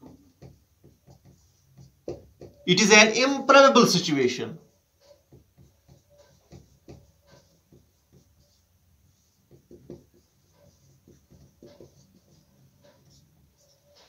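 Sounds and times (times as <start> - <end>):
marker writing on whiteboard: 0.0 - 14.0.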